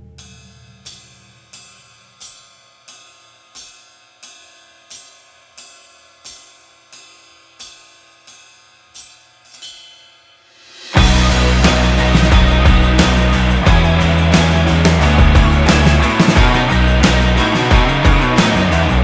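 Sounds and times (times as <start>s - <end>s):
cymbal strikes ringing: 0.0s - 19.0s.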